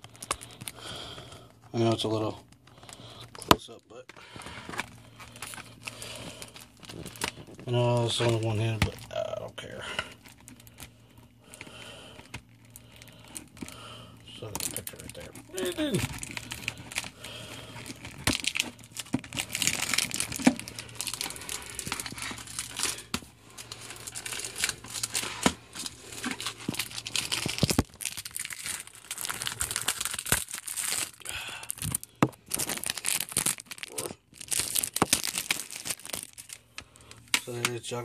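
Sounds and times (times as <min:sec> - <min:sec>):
shrink-wrap crinkling and tearing: 0:00.0 - 0:38.0.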